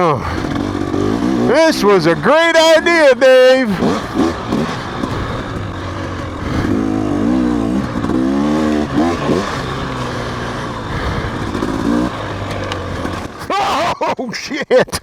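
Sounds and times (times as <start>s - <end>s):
dirt bike engine revving: 0.0s - 14.1s.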